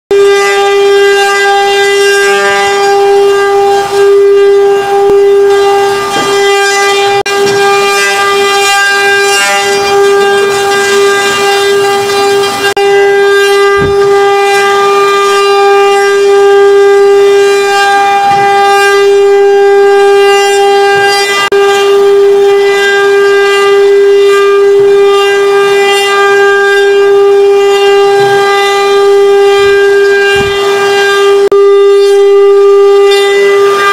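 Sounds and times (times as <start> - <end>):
cnc router spindles whining: 0.1 - 33.9.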